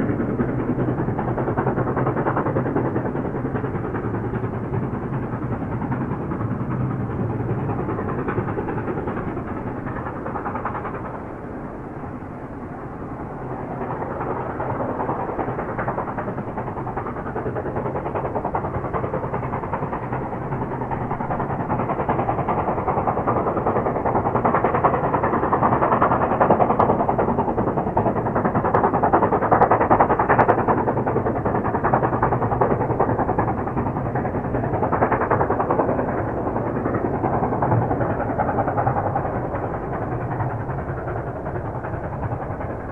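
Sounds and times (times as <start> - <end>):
steam locomotive working: 0.0 - 42.9.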